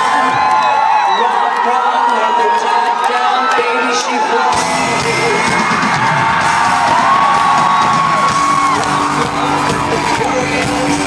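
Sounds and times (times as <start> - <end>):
fans screaming and whooping: 0.0 - 11.0
loud live pop music: 0.0 - 11.0.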